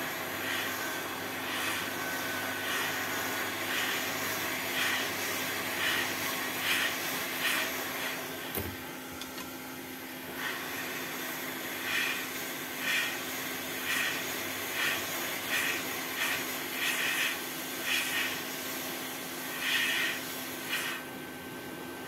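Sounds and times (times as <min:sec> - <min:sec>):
hot air gun blowing: 0:00.0 - 0:08.4, 0:10.3 - 0:21.1.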